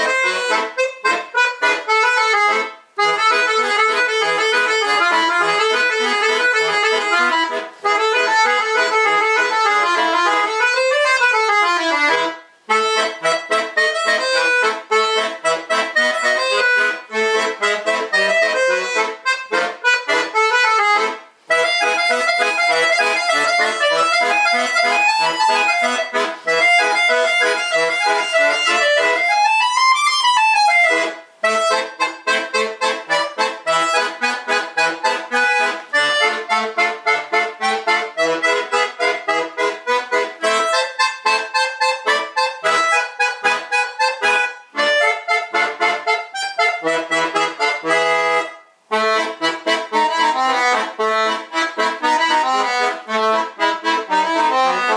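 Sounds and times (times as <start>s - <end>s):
button accordion playing fast tune: 0.0s - 54.9s.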